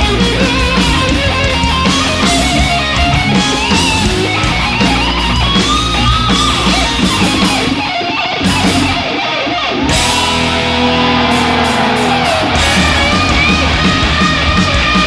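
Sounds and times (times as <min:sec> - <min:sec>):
distorted electric guitar lead: 0:00.0 - 0:15.0
drums: 0:00.0 - 0:15.0
rhythm guitar: 0:00.0 - 0:15.0.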